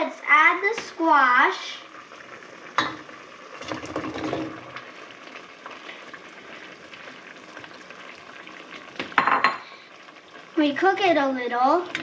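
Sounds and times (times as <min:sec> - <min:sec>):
pot bubbling: 0:00.0 - 0:12.0.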